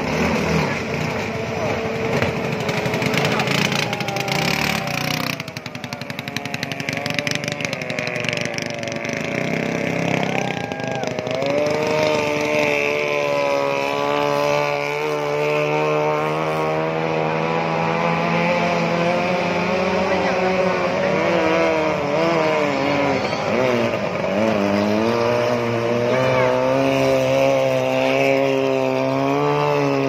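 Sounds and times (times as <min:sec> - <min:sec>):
racing boat outboard motors passing: 0:00.0 - 0:30.0.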